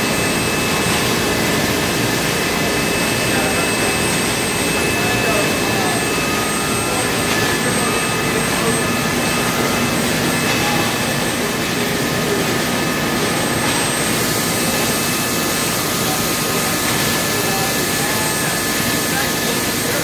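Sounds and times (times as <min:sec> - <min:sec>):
rush of blower air and machinery: 0:00.0 - 0:20.0.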